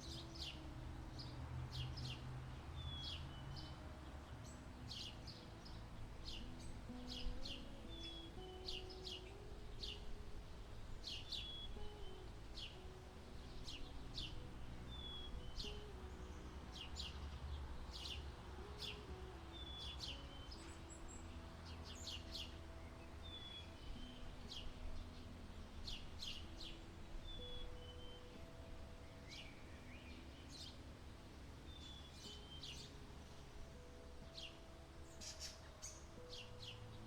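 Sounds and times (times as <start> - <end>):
birds chirping: 0.0 - 37.0
slow soft low melody: 0.0 - 37.0.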